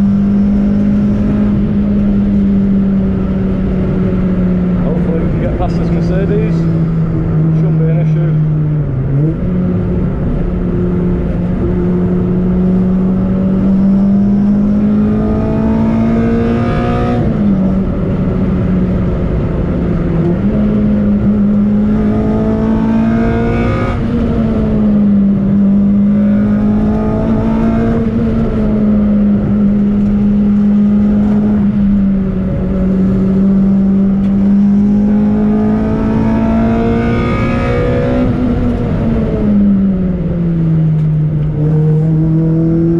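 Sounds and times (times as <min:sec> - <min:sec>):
car engine shifting gears: 0:00.0 - 0:42.9
road and tyre noise: 0:00.0 - 0:42.9.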